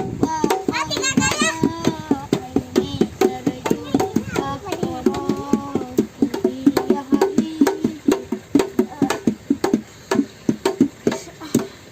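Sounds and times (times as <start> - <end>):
hand percussion knocks: 0.0 - 11.8.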